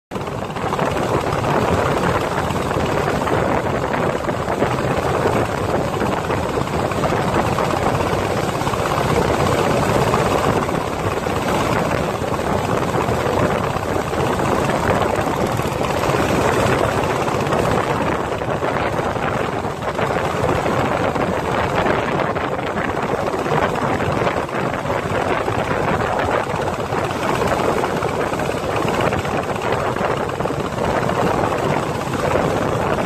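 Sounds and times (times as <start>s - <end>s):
motorboat engine running: 0.1s - 33.0s.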